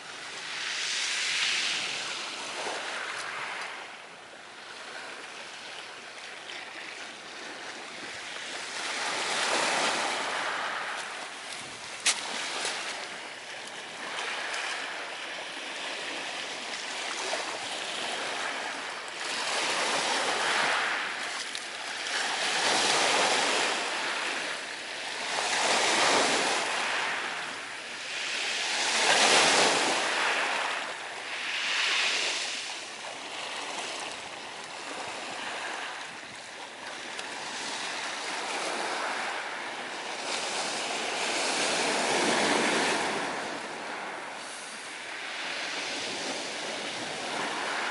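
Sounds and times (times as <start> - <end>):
sea surf washing onto shore: 0.0 - 47.9.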